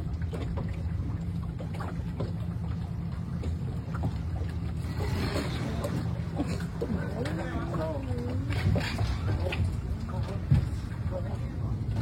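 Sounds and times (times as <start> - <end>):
boat motor humming: 0.0 - 12.0
water noise: 0.0 - 12.0.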